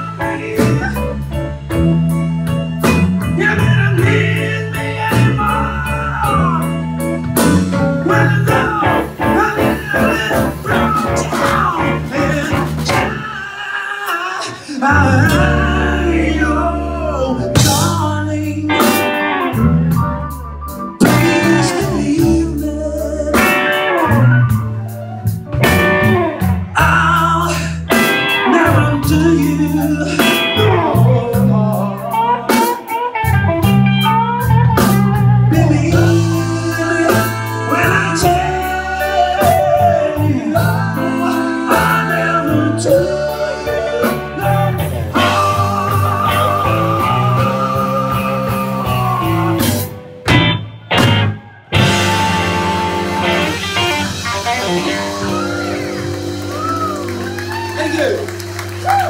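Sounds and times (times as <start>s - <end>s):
man singing: 0.0s - 1.7s, 2.8s - 20.3s, 20.9s - 24.9s, 25.6s - 50.0s
live blues-rock band: 0.0s - 59.0s.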